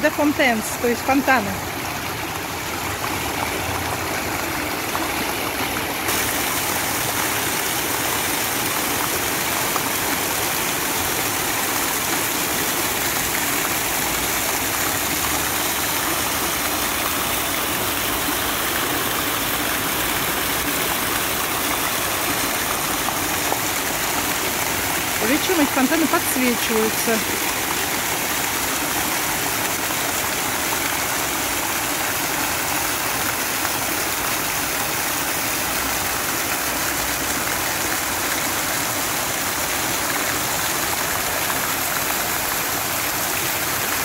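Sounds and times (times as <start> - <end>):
fountain water splashing: 0.0 - 44.0.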